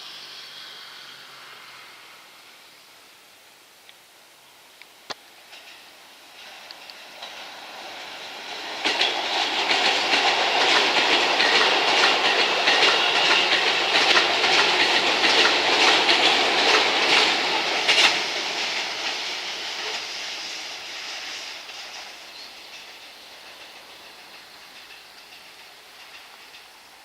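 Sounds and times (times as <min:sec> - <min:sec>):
electric train passing: 0:00.0 - 0:27.0
wheels clacking over rail joints: 0:05.1 - 0:27.0.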